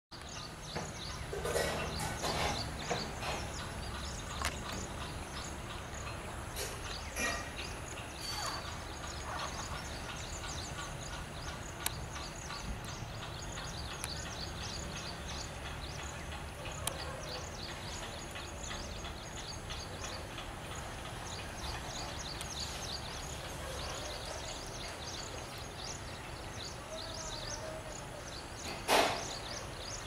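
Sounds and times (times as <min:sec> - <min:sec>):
sparrows chirping: 0:00.1 - 0:30.0
steady low rumble: 0:00.2 - 0:26.8.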